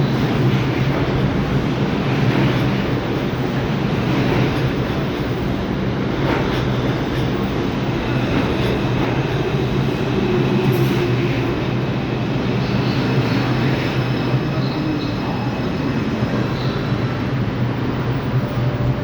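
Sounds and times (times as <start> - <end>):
subway train wheels rumbling on rail: 0.0 - 19.0.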